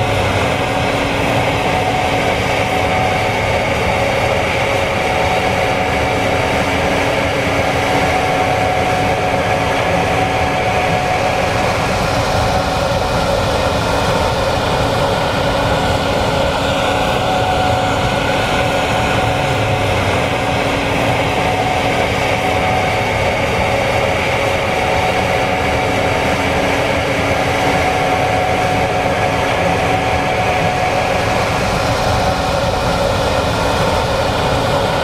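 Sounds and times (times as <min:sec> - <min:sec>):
combine harvester drone: 0:00.0 - 0:35.0
machinery whining tones: 0:00.0 - 0:35.0.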